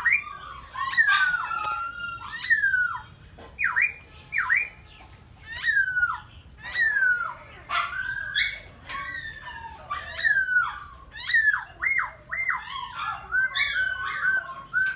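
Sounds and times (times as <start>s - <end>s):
small dog whining and yelping: 0.0s - 3.1s, 5.4s - 14.9s.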